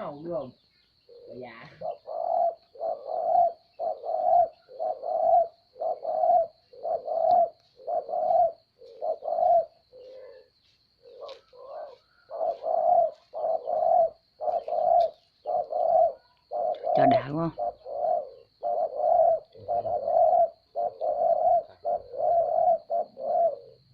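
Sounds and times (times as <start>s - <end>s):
bird crowing: 1.1s - 23.9s.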